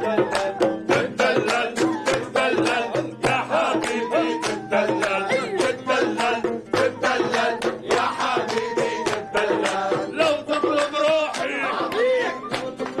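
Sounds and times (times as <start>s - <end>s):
frame drum beat: 0.0s - 13.0s
hand clapping: 0.0s - 13.0s
men singing: 0.0s - 13.0s
oud playing: 0.0s - 13.0s.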